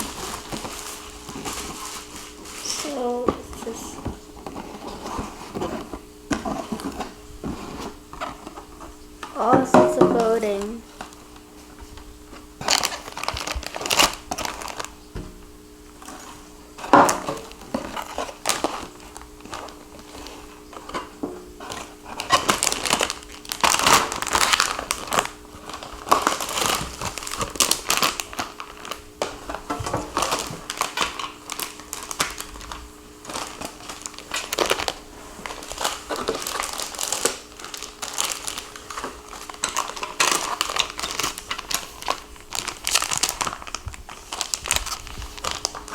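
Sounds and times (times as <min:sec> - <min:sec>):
packing material crinkling: 0:00.0 - 0:15.2, 0:15.8 - 0:45.9.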